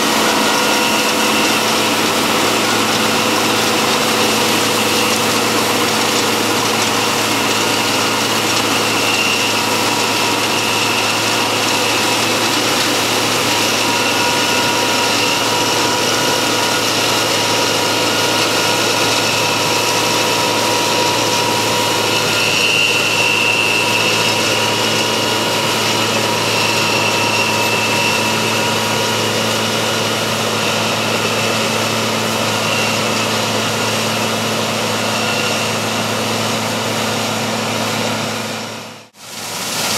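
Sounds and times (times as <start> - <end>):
farm machinery engine droning: 0.0 - 39.9
steady mechanical whine: 0.0 - 39.9.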